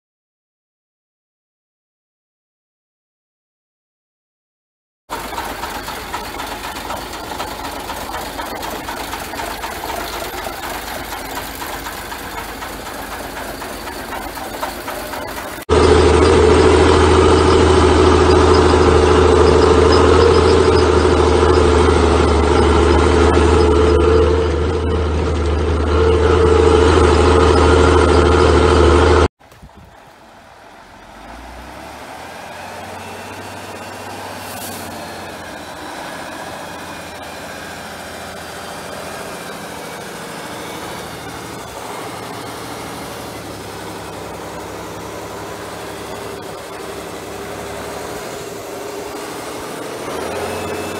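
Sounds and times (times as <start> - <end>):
diesel truck engine running: 5.1 - 50.9
vehicle engine on muddy track: 5.1 - 50.9.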